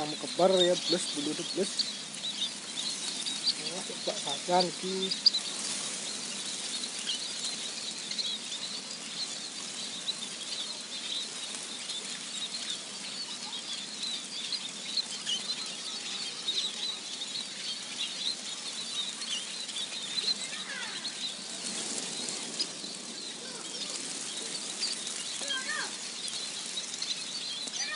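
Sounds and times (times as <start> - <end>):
small birds chirping: 0.0 - 27.9
steady hiss: 0.0 - 27.9.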